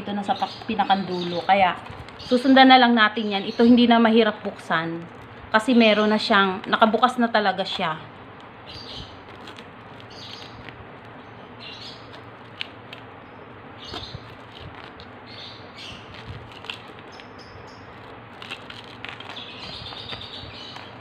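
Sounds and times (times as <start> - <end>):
small birds chirping: 0.0 - 8.0, 8.6 - 21.0.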